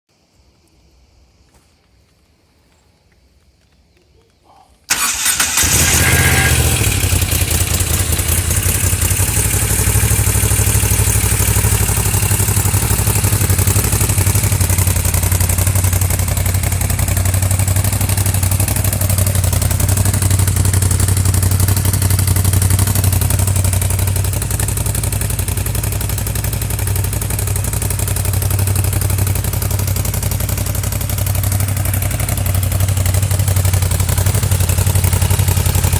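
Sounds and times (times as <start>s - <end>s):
motorcycle engine starting and idling: 4.9s - 35.9s.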